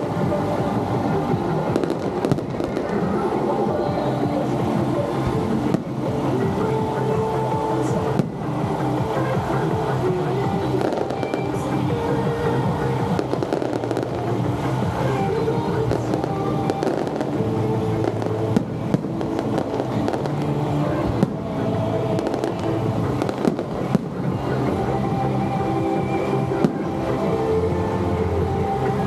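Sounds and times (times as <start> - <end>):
fireworks crackling and bursting: 0.0 - 27.6
music playing: 0.0 - 29.0.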